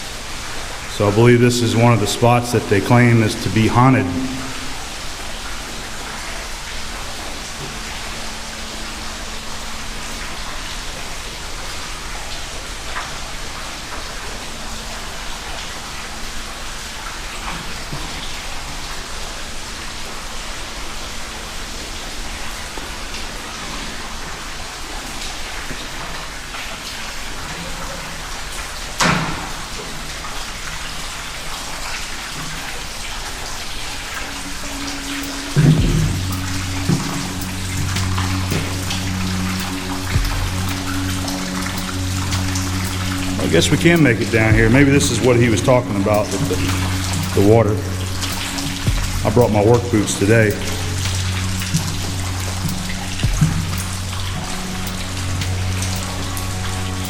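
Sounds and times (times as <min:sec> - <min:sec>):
rain pattering and dripping: 0:00.0 - 0:57.0.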